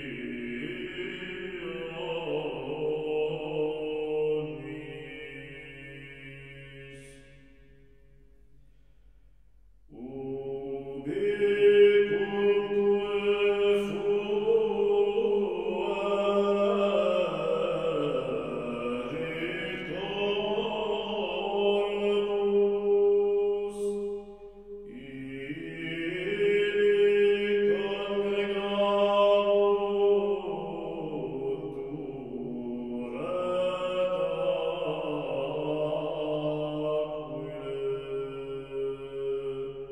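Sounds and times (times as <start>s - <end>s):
slow chanting voices: 0.0s - 39.9s.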